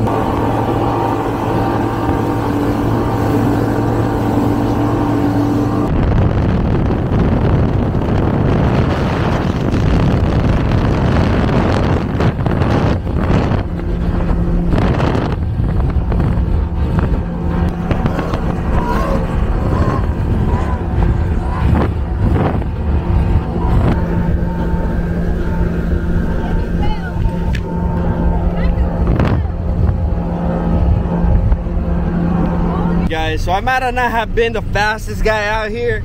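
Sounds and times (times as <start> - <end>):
speedboat engines running: 0.0 - 36.0
wind buffeting microphone: 0.0 - 36.0.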